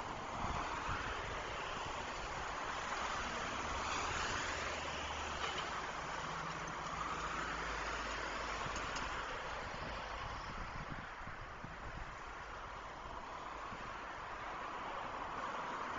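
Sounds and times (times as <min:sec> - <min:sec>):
tyre noise of passing vehicles: 0:00.0 - 0:15.9.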